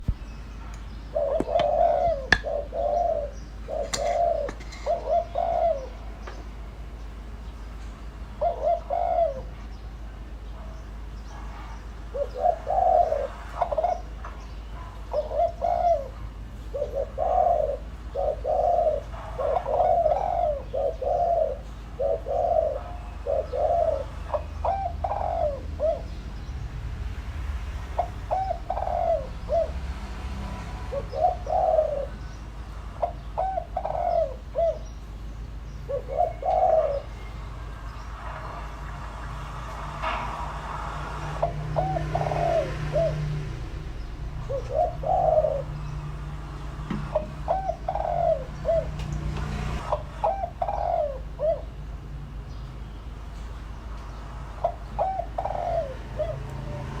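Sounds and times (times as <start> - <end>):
dove cooing: 0.0 - 6.5, 8.3 - 9.9, 12.1 - 26.5, 27.9 - 51.8, 54.1 - 57.0.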